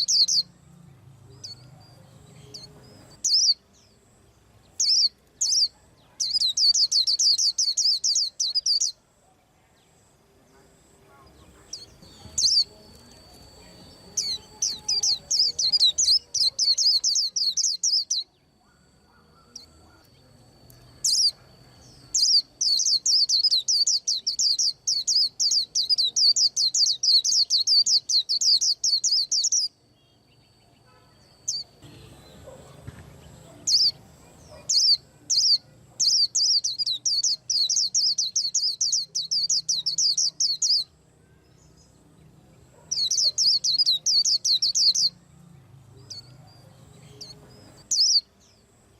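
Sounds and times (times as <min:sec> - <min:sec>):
bird singing rapid high chirps: 0:00.0 - 0:09.1, 0:11.2 - 0:41.0, 0:42.7 - 0:45.2, 0:46.0 - 0:48.7.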